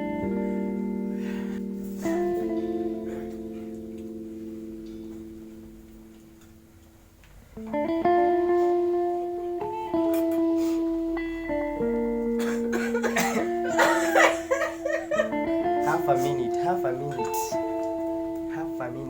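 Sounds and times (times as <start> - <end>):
background music chords: 0.0 - 6.9, 7.6 - 19.0.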